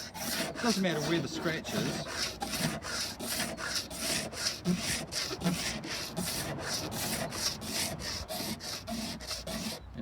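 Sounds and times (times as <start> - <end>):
knife scraping plastic hull: 0.0 - 9.8.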